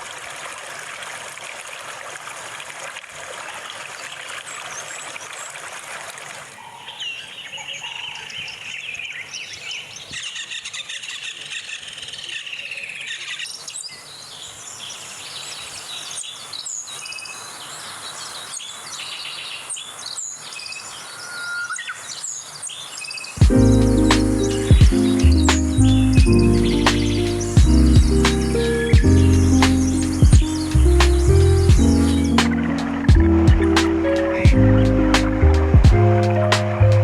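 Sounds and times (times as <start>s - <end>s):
faint stream: 0.0s - 37.0s
birds chirping and warbling: 6.5s - 37.0s.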